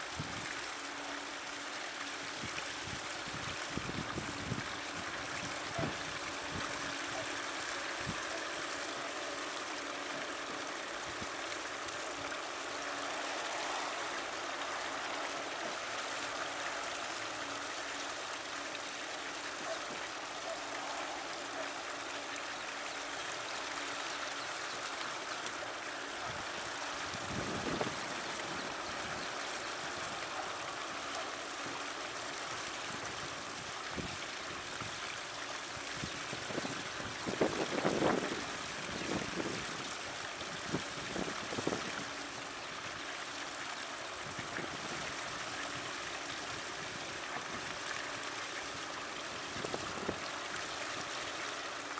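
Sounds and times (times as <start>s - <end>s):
stream running water: 0.0s - 51.9s.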